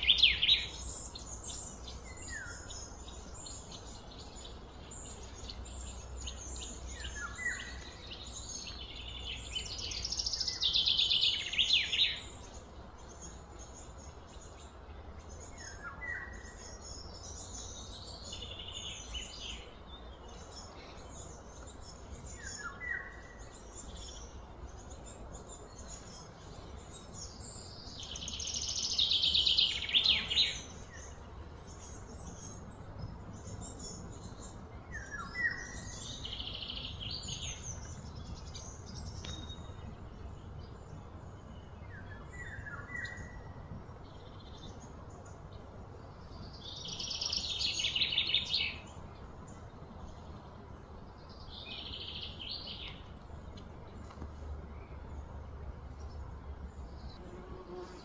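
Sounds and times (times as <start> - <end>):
birds trilling and chirping: 0.0 - 58.0.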